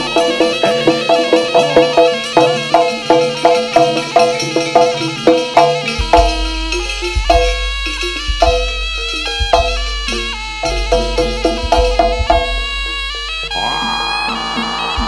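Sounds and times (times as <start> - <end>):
gamelan ringing notes: 0.0 - 15.0
hand drums: 0.0 - 15.0.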